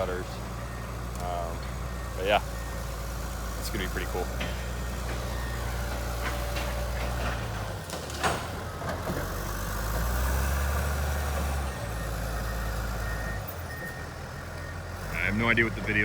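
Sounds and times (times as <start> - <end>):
heavy machine diesel engine: 0.0 - 16.0.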